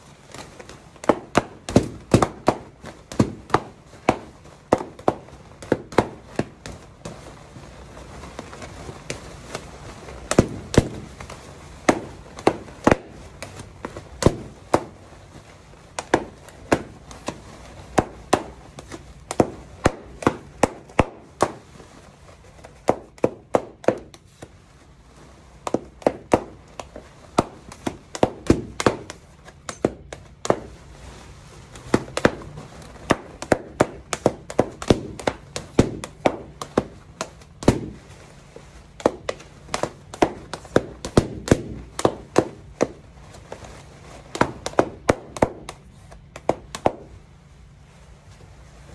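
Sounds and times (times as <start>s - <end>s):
balloons popping: 0.0s - 48.9s.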